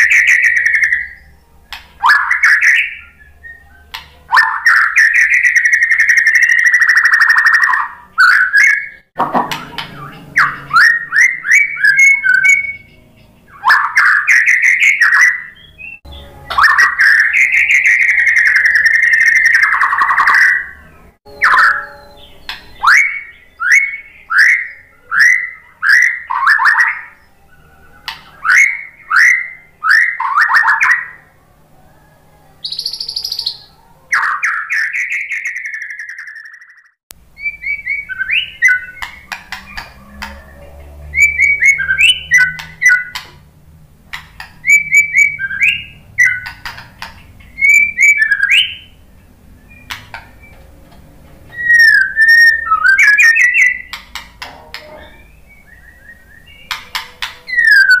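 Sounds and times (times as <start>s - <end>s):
songbird singing whistled phrases: 0.0s - 31.4s, 32.6s - 43.4s, 44.4s - 50.7s, 51.5s - 54.0s, 54.7s - 58.0s.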